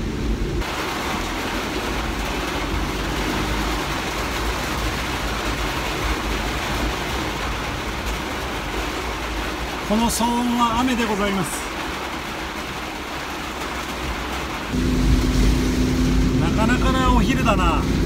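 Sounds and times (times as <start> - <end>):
heavy rain on vehicle roof: 0.0 - 18.0
vehicle driving rumble: 0.0 - 18.0.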